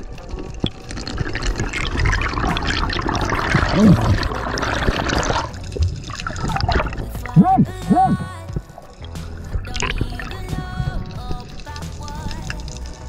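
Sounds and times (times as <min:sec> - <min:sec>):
underwater bubbling and rushing: 0:00.0 - 0:13.0.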